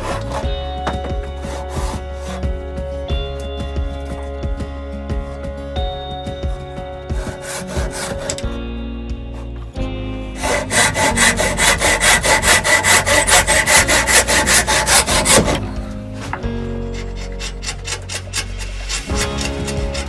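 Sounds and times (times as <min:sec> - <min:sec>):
hand saw cutting wood: 0:00.0 - 0:05.5, 0:06.4 - 0:08.6, 0:10.3 - 0:20.0.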